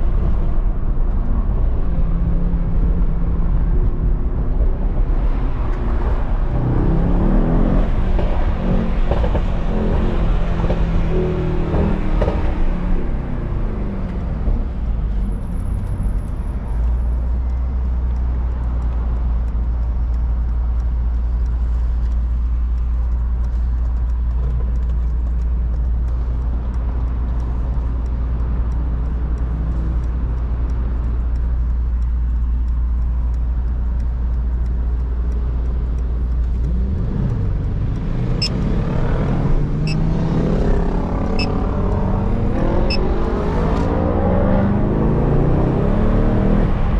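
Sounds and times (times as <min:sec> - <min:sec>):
car engine droning: 0:00.0 - 0:46.9.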